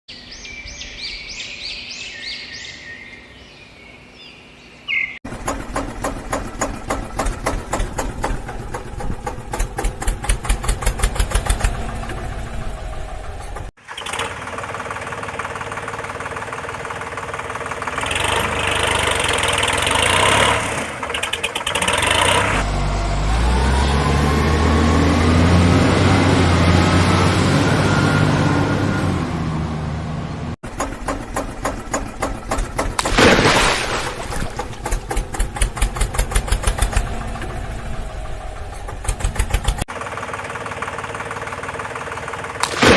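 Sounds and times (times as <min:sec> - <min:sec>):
engine chugging and revving: 0:05.2 - 0:33.2, 0:34.2 - 0:42.9.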